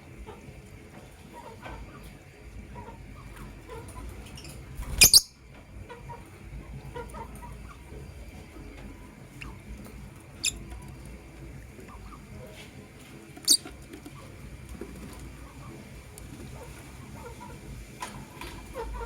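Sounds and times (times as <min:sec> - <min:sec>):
lovebirds chattering and chirping: 0:02.8 - 0:12.6, 0:13.3 - 0:19.0.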